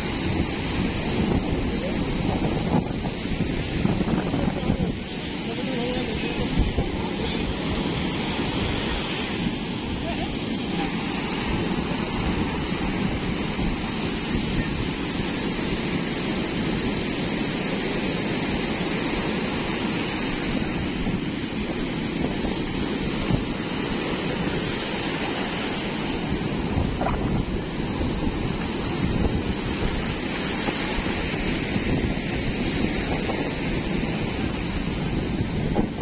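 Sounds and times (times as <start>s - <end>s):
sea waves breaking: 0.0s - 36.0s
surf washing over sand: 0.0s - 36.0s
wind buffeting microphone: 0.0s - 36.0s.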